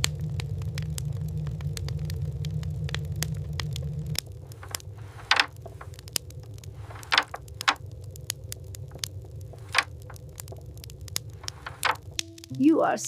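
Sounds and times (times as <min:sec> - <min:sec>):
steady low hum: 0:00.0 - 0:13.0
wood fire crackling in a stove: 0:00.0 - 0:13.0.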